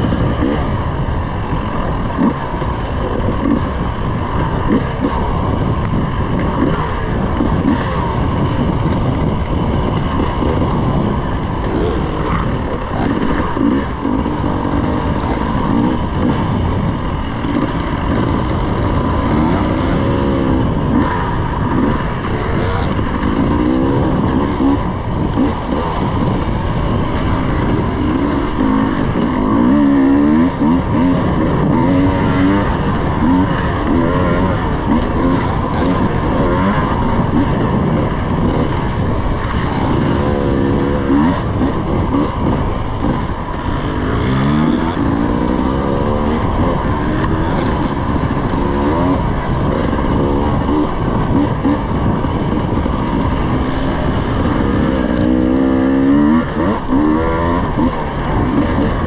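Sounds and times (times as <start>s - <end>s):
dirt bike engine revving: 0.0s - 59.0s
wind noise on microphone: 0.0s - 59.0s.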